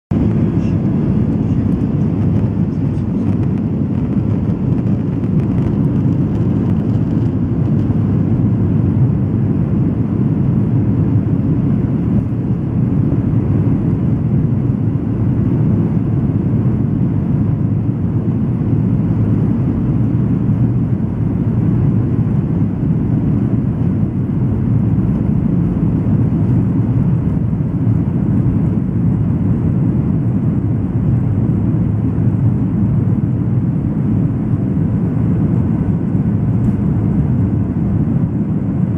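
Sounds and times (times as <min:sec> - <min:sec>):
airliner cabin rumble: 0:00.1 - 0:38.9.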